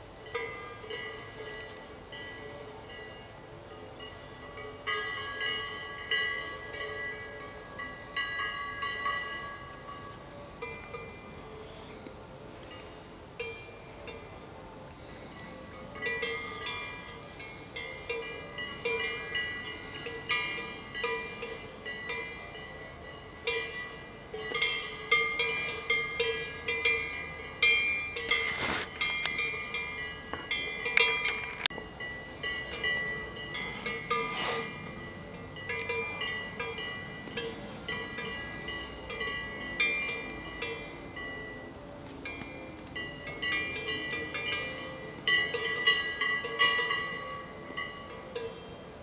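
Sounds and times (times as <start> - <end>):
cowbell clanking: 0.2 - 11.6, 15.5 - 49.0.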